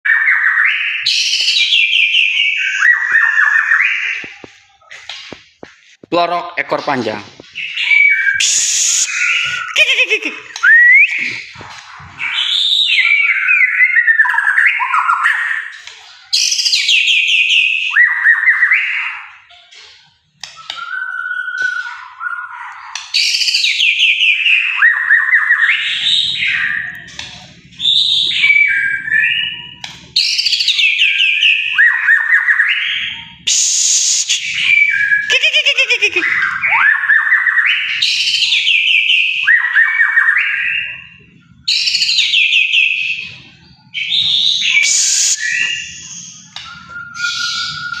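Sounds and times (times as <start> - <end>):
songbird whistles and trills: 0.1 - 4.4, 7.5 - 48.0.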